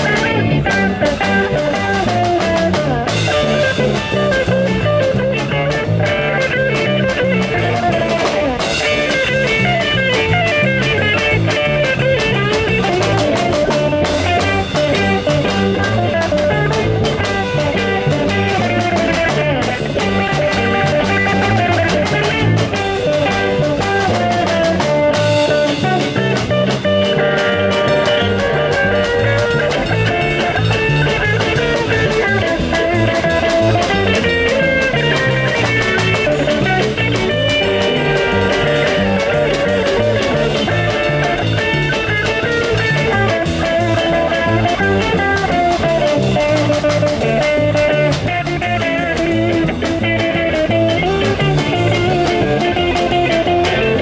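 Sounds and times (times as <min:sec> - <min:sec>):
live instrumental rock band: 0:00.0 - 0:54.0.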